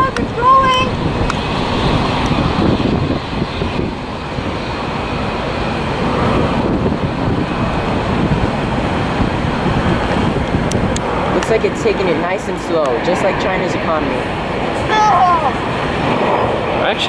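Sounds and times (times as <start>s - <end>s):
jet engines at takeoff power: 0.0s - 17.0s
wind buffeting microphone: 0.0s - 17.0s.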